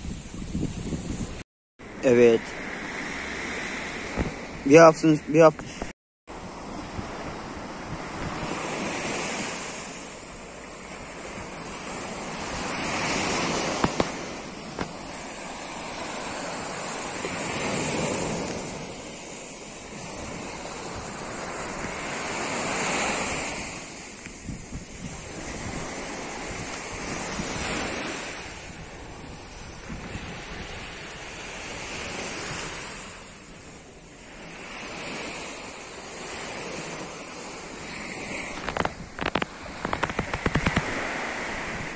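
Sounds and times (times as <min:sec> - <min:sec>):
wind rumbling on microphone: 0:00.0 - 0:01.4, 0:02.8 - 0:04.7, 0:05.6 - 0:41.9
sea surf breaking on beach: 0:00.0 - 0:41.9.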